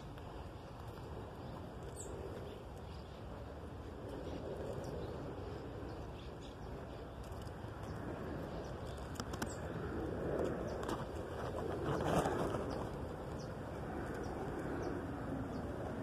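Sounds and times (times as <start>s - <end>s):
steady low rush: 0.0s - 16.0s.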